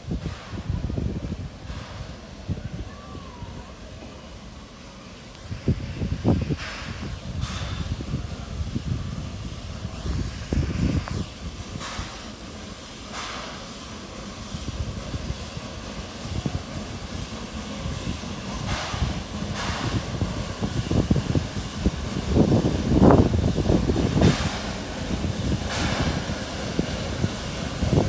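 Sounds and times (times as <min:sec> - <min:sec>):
wind buffeting microphone: 0:00.0 - 0:03.8, 0:05.4 - 0:12.4, 0:13.1 - 0:28.0
train rumbling past: 0:00.0 - 0:28.0.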